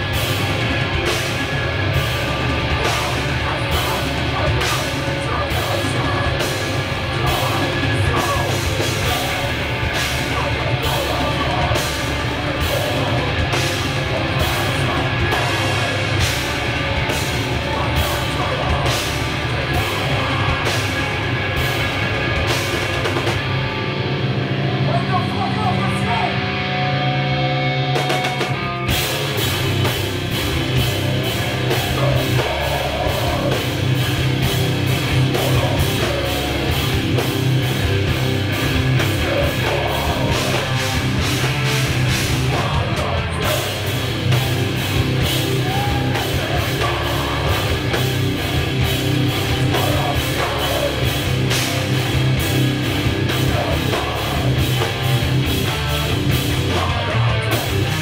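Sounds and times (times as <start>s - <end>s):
drum kit fast beat: 0.0s - 25.8s, 27.8s - 58.0s
distorted electric guitars: 0.0s - 58.0s.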